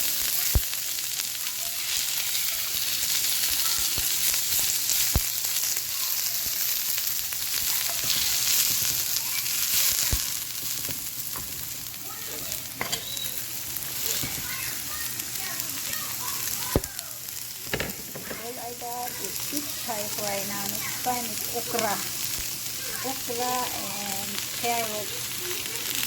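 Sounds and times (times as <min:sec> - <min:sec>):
greens sizzling in a hot pan: 0:00.0 - 0:26.0.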